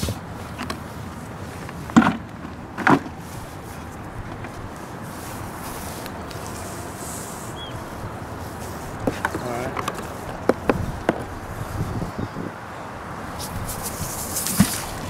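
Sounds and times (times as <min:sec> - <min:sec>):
road traffic passing close: 0:00.0 - 0:15.0.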